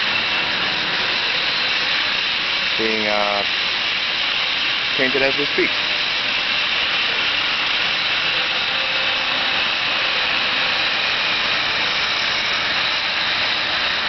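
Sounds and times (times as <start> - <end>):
spray gun hissing: 0.0 - 14.0.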